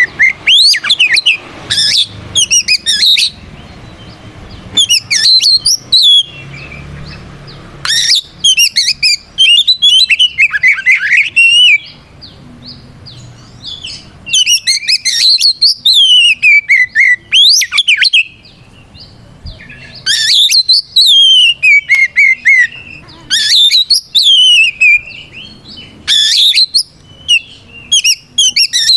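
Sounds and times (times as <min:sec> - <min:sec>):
magpie-robin singing whistled notes: 0:00.0 - 0:28.9.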